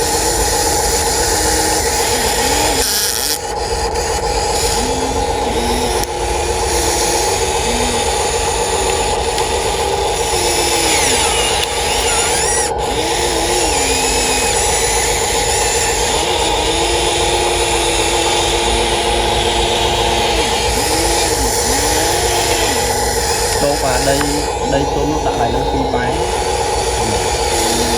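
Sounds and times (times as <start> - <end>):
electric motors and pump whining: 0.0 - 27.9.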